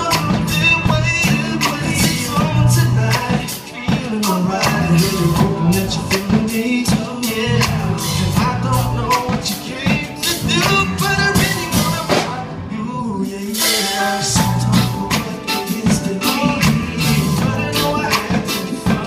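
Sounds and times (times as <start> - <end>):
steady drum beat: 0.0 - 12.6, 13.4 - 19.0
live reggae band playing: 0.0 - 19.0
man singing: 0.0 - 19.0.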